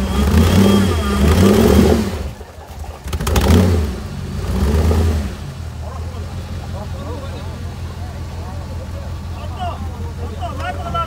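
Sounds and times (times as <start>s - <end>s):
off-road engine revving: 0.0s - 11.0s.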